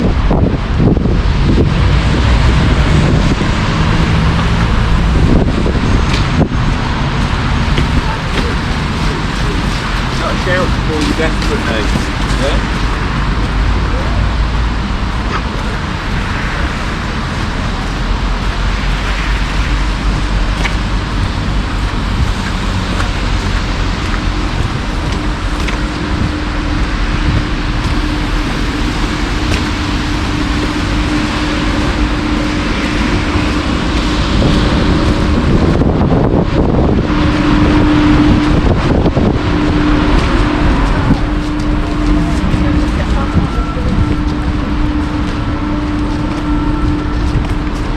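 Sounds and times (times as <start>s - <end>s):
cars passing: 0.0s - 47.9s
steady engine hum: 0.0s - 47.9s.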